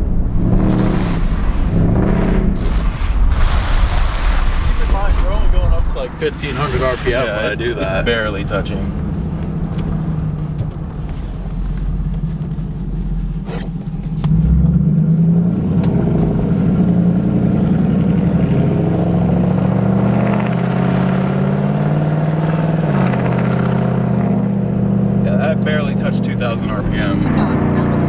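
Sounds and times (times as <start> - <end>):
engine exhaust accelerating: 0.0 - 28.0.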